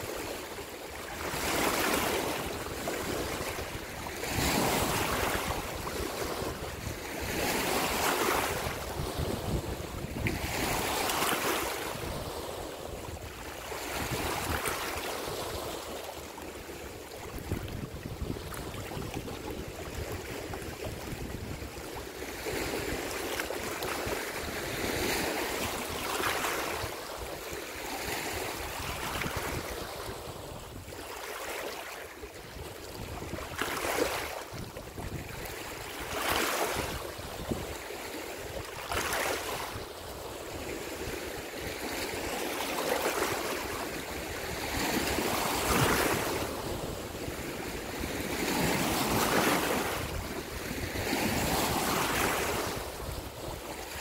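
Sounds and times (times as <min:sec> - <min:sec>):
small waves lapping on shore: 0:00.0 - 0:54.0
wind rumble on microphone: 0:01.1 - 0:31.1, 0:32.4 - 0:42.5, 0:43.1 - 0:54.0.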